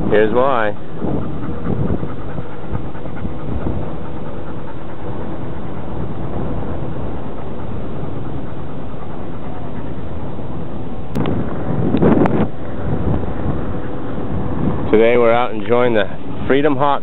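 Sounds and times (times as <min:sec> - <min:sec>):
water lapping against kayak: 0:00.0 - 0:17.0
wind noise on microphone: 0:00.0 - 0:17.0.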